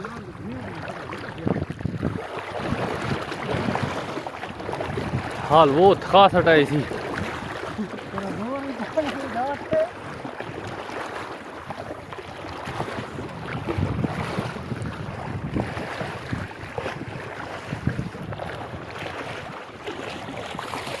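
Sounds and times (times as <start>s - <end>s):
river water rushing and splashing: 0.0s - 21.0s
wind buffeting microphone: 0.0s - 21.0s.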